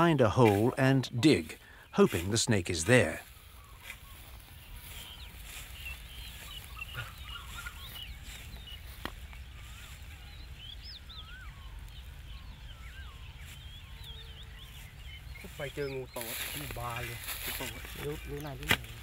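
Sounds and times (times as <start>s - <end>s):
birds chirping and whistling: 0.0s - 19.0s.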